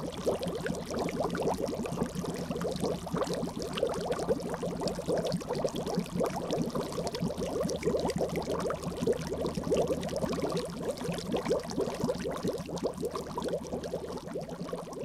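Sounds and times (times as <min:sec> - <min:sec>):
liquid bubbling: 0:00.0 - 0:15.0.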